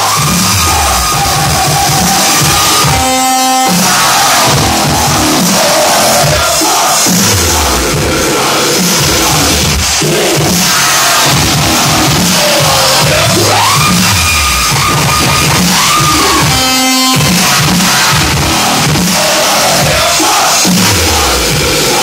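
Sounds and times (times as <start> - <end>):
electronic dance music: 0.0 - 22.0.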